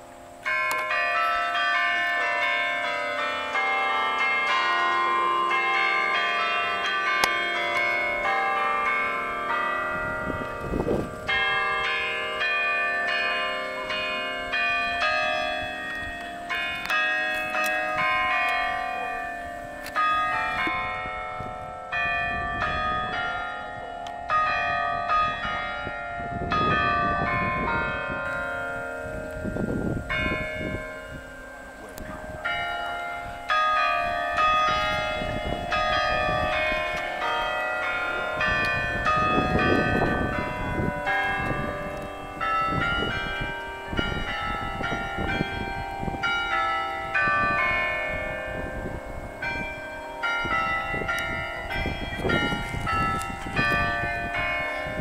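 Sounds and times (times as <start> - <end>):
carillon bells ringing a tune: 0.0 - 55.0.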